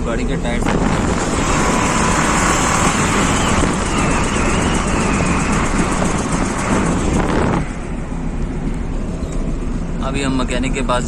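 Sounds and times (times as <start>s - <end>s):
road and tyre noise: 0.0s - 11.0s
noise from one wheel: 0.7s - 9.8s.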